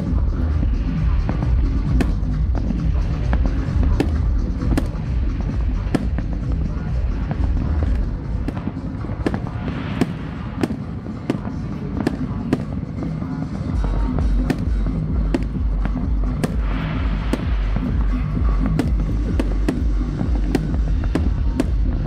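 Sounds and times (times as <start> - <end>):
fireworks bangs and crackles: 0.0 - 22.0
loud music with deep bass: 0.0 - 22.0.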